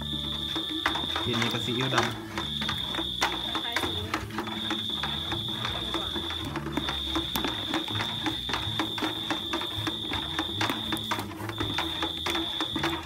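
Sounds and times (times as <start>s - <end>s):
stick stirring in metal bucket: 0.0s - 13.0s.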